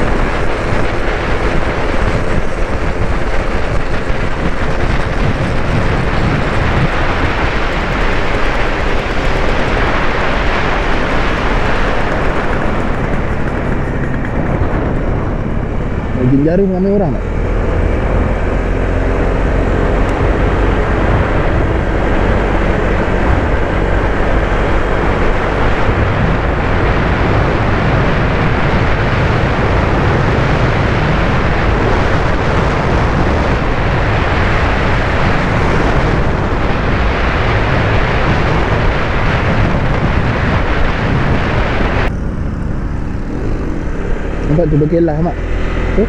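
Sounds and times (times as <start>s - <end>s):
scooter engine and road noise: 0.0s - 46.0s
wind rushing over microphone: 0.0s - 46.0s.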